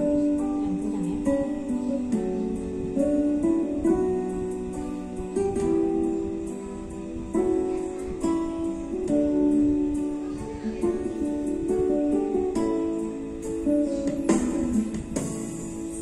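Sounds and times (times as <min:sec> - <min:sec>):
guitar music: 0:00.0 - 0:16.0.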